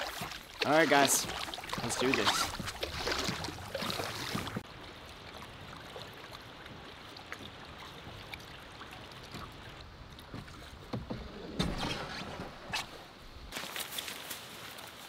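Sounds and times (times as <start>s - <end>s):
paddle drawing through water: 0.0s - 15.0s
water drips and splashes: 0.0s - 15.0s.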